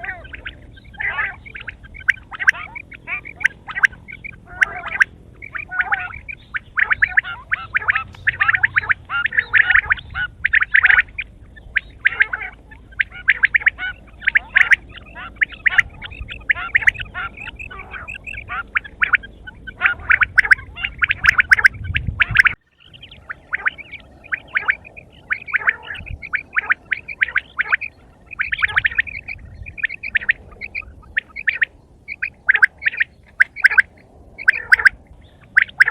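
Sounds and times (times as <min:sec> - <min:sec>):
quail chattering calls: 0:00.0 - 0:35.9.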